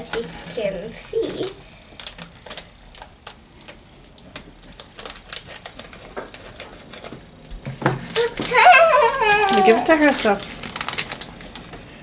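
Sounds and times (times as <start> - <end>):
foil packaging crinkling: 1.0 - 12.0.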